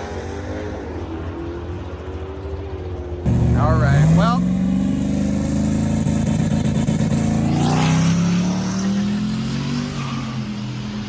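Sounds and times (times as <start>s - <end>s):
truck engine running hard: 0.0s - 11.0s.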